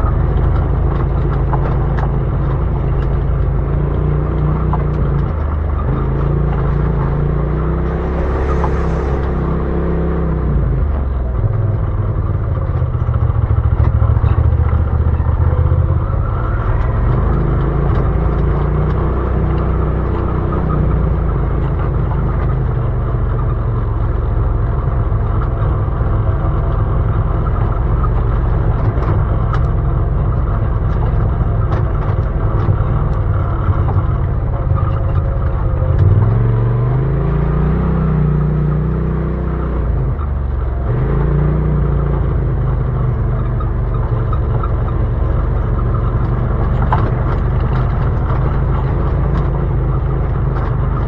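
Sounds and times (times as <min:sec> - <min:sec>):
utility vehicle engine revving: 0:00.0 - 0:51.0.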